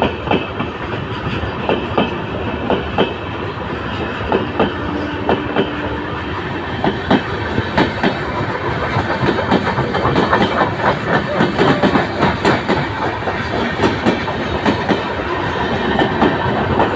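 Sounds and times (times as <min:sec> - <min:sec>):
train rumble: 0:00.0 - 0:16.9
train wheels clacking over rail joints: 0:00.0 - 0:16.9.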